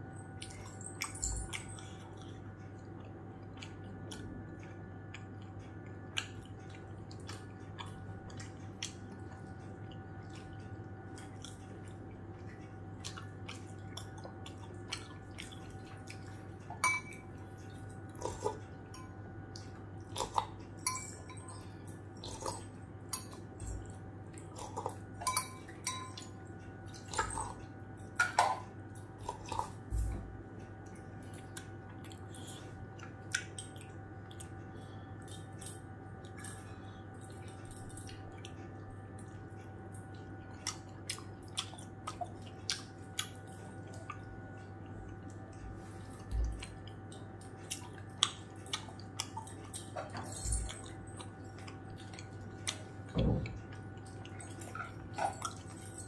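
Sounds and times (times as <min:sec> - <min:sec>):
faint steady hum: 0:00.0 - 0:56.0
person chewing and smacking: 0:00.3 - 0:56.0.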